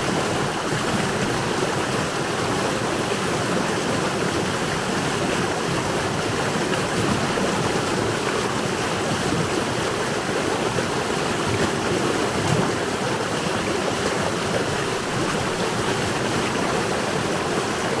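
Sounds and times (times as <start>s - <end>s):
stream water rushing and babbling: 0.0s - 18.0s.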